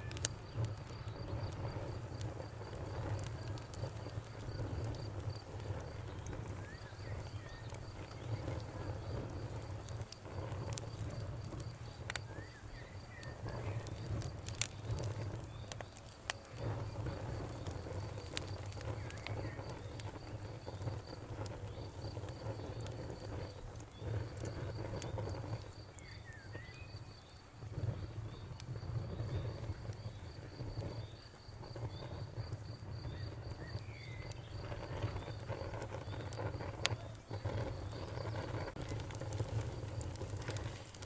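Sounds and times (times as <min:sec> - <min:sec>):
crickets chirping: 0:00.0 - 0:40.9
campfire wood crackling: 0:00.0 - 0:41.0.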